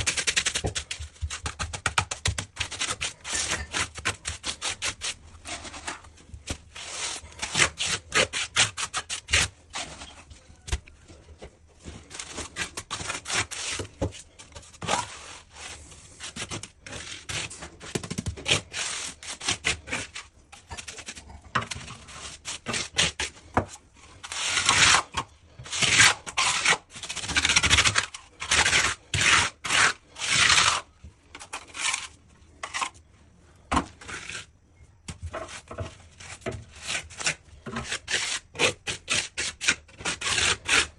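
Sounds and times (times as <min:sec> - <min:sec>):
hand scraping wooden parquet: 0:00.0 - 0:33.0, 0:35.2 - 0:40.9.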